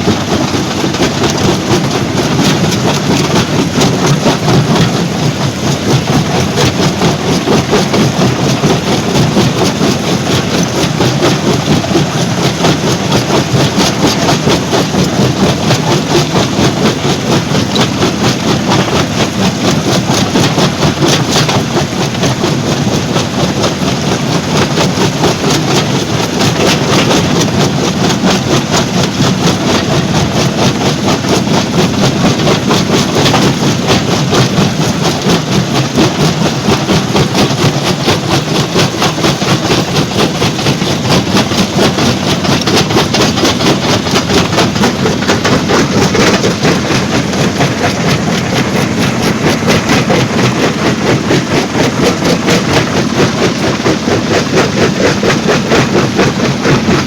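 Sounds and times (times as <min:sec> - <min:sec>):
low engine drone: 0:00.0 - 0:57.0
machinery clatter of rapid knocks: 0:00.0 - 0:57.0.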